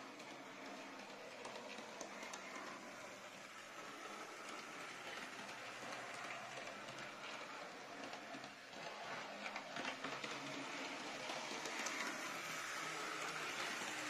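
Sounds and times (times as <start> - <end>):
toy train clicks: 0.0 - 14.0
toy train motor whir and wheel rumble: 0.0 - 14.0.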